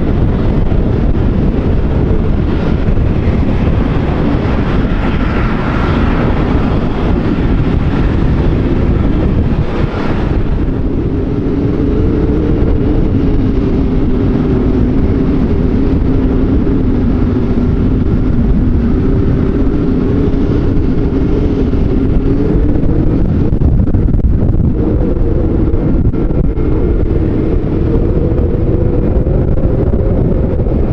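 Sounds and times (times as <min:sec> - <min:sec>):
jet engines running: 0:00.0 - 0:30.9.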